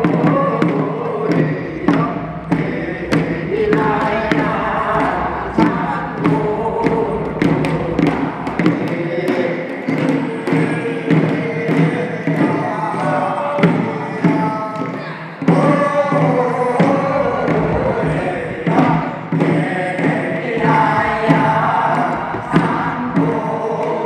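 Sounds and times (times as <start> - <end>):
drum beats: 0.0 - 24.0
group singing in chorus: 0.0 - 24.0.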